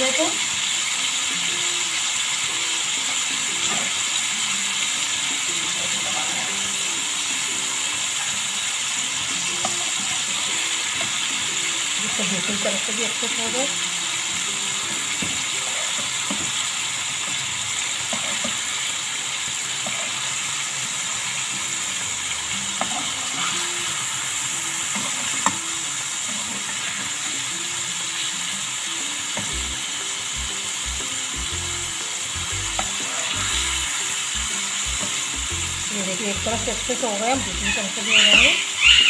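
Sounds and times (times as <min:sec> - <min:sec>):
chicken sizzling in a frying pan: 0:00.0 - 0:39.0.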